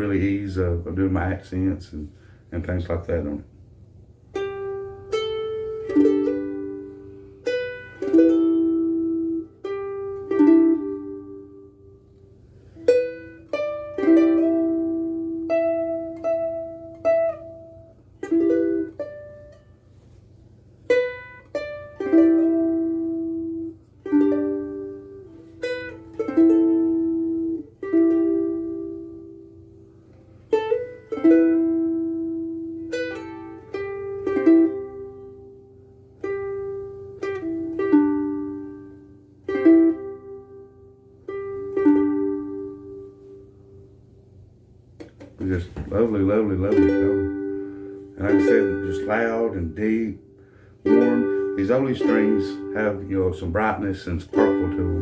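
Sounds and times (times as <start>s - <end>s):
finger-picked ukulele: 4.3s - 43.9s, 44.9s - 55.0s.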